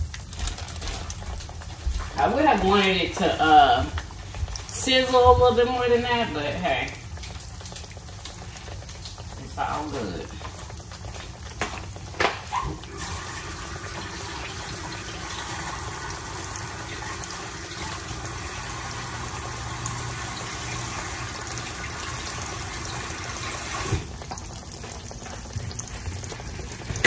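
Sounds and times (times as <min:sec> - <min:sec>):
fish frying in hot oil: 0:00.0 - 0:27.0.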